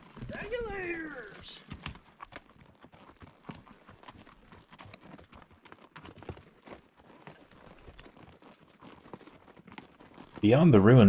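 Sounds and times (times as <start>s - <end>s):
horse hooves clopping: 0.0s - 11.0s.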